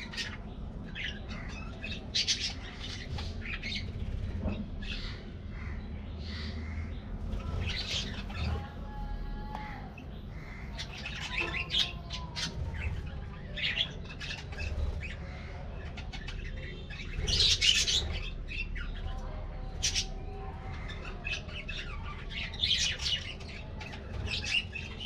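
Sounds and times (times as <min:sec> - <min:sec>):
budgerigars chirping and squawking: 0:00.0 - 0:08.8, 0:09.6 - 0:25.0.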